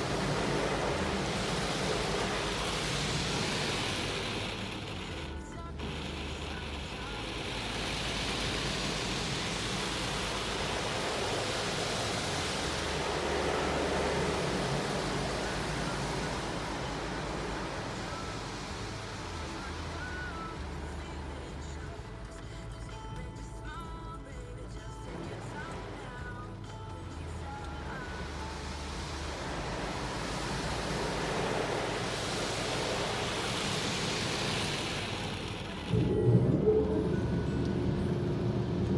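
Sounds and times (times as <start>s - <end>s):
high-pressure water jets spraying: 0.0s - 23.2s, 23.8s - 38.9s.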